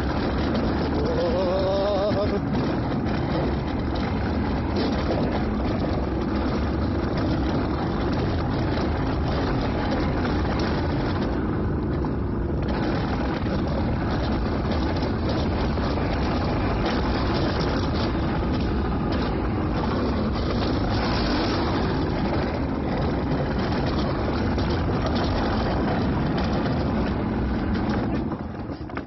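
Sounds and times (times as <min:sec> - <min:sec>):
sled wheels rumbling on metal track: 0:00.0 - 0:29.0
wind on microphone: 0:00.0 - 0:29.0.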